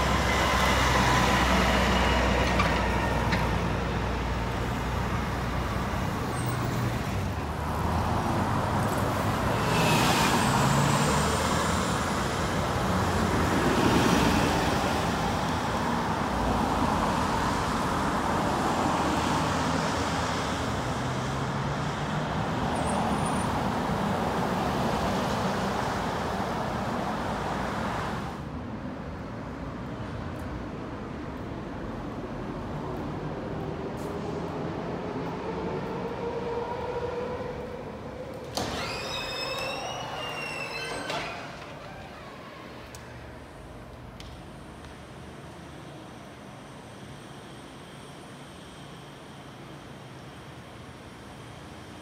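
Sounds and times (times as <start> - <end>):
traffic passing: 0.0 - 52.0.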